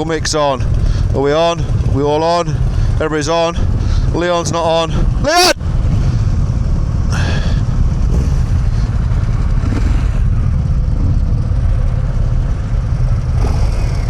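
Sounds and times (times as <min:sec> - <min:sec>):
motorcycle engines idling: 0:00.0 - 0:14.0.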